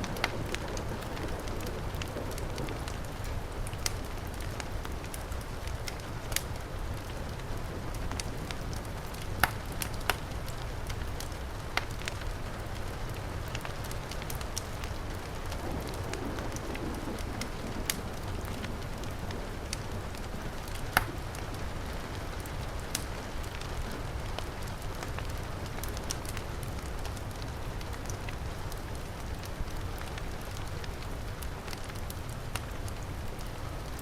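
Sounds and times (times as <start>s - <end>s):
heavy rain falling: 0.0s - 34.0s
wood fire crackling and popping: 0.0s - 34.0s.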